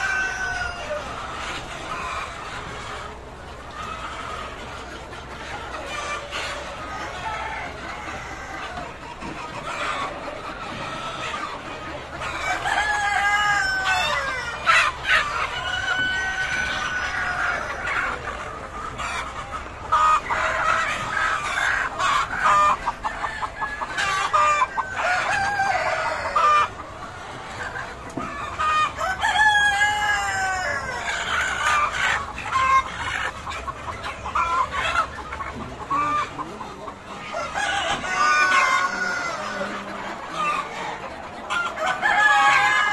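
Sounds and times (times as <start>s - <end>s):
roosters crowing: 0.0s - 3.0s, 5.8s - 11.4s, 12.1s - 18.4s, 19.4s - 33.4s, 34.2s - 42.9s
hens clucking: 0.0s - 42.9s.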